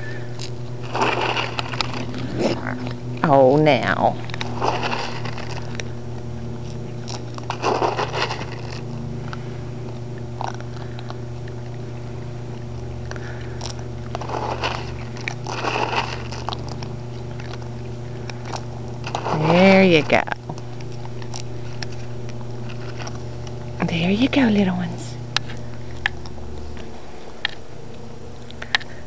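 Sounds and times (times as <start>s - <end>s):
raccoons chewing and crunching food: 0.0s - 29.0s
steady low hum: 0.0s - 29.0s.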